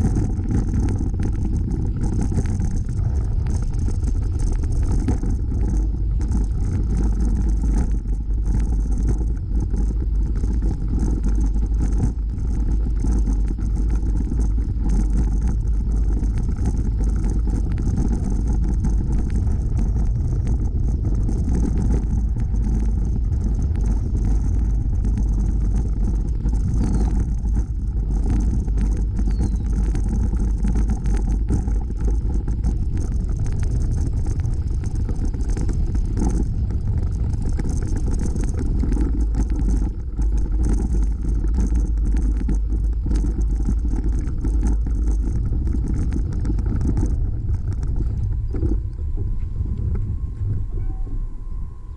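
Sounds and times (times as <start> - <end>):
tyres rolling over gravel: 0.0 - 50.6
wind rumble on microphone: 0.0 - 51.9.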